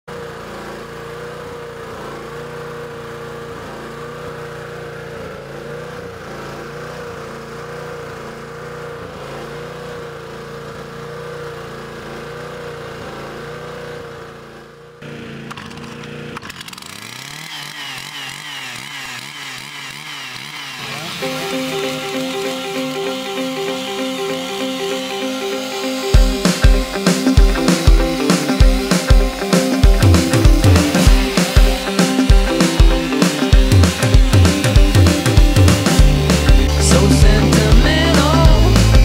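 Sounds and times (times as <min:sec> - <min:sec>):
chainsaw engine revving: 0:00.1 - 0:39.0.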